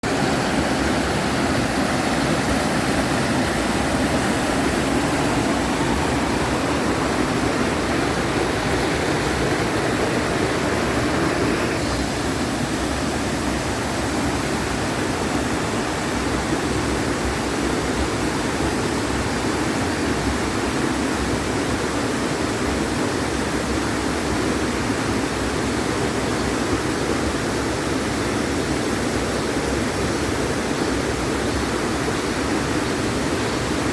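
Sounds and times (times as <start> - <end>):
stream rushing: 0.0 - 33.9.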